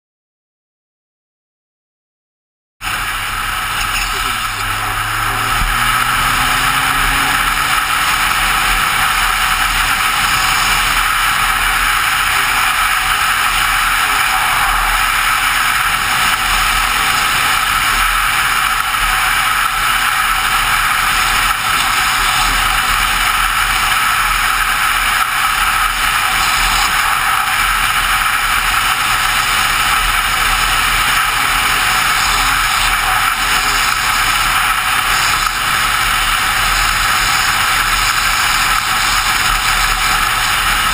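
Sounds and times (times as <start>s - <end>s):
road noise: 2.8s - 40.9s
wind rush: 2.8s - 40.9s.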